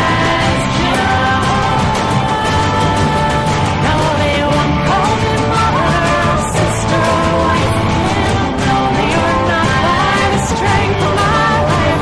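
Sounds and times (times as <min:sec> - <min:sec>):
instrumental band music: 0:00.0 - 0:12.0.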